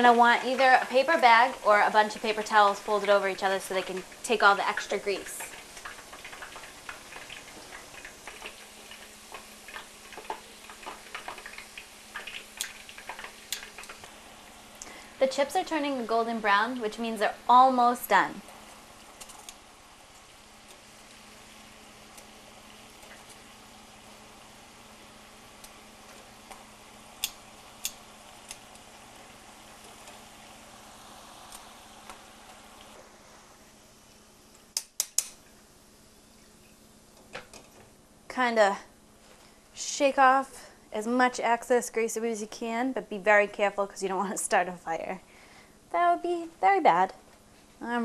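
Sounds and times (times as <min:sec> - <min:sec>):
potato slices frying in oil: 0:00.0 - 0:47.2
faint steady hum: 0:00.0 - 0:48.0.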